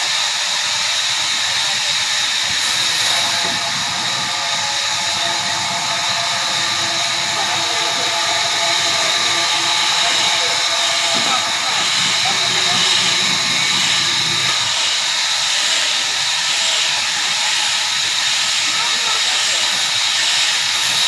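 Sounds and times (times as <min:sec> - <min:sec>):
high steady whine: 0:00.0 - 0:21.0
sawmill machine running: 0:00.0 - 0:21.0.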